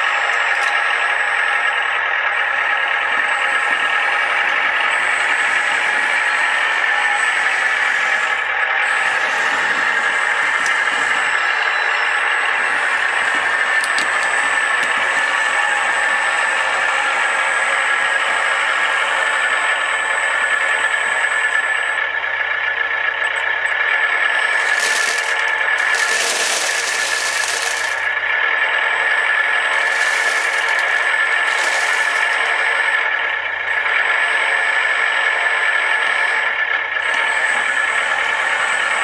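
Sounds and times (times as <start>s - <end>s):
electric drive whine: 0.0s - 33.8s.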